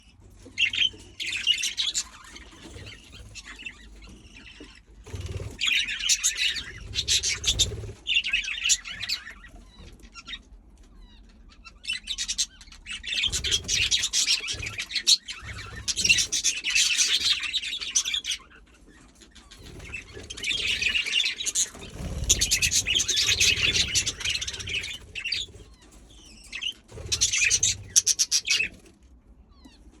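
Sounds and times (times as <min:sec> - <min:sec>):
budgerigars chattering and warbling: 0:00.0 - 0:28.9.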